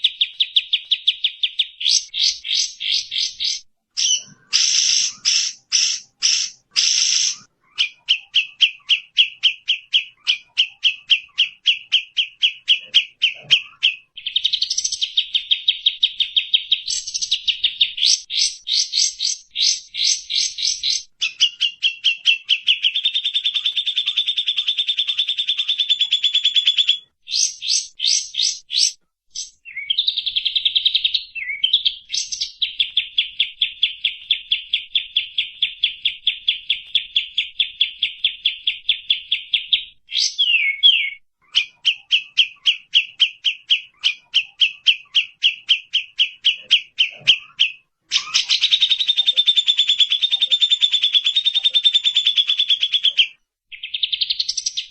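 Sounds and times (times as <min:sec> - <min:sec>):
songbird trilling: 0:00.0 - 0:54.9.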